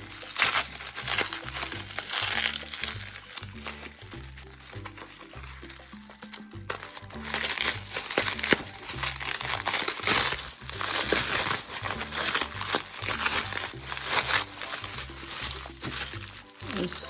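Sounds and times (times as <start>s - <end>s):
light background music: 0.0s - 17.0s
plastic packaging crinkling: 0.0s - 17.0s.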